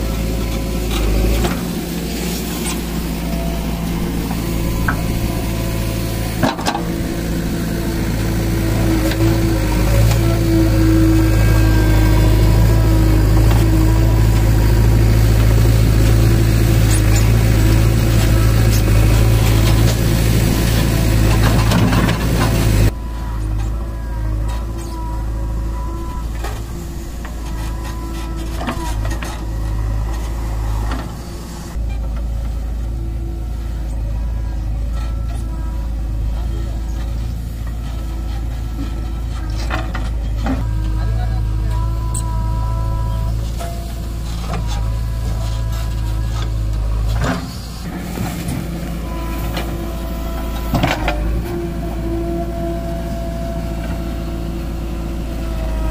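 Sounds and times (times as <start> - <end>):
diesel engine under hydraulic load: 0.0 - 55.9
thin steady hydraulic whine: 0.0 - 55.9.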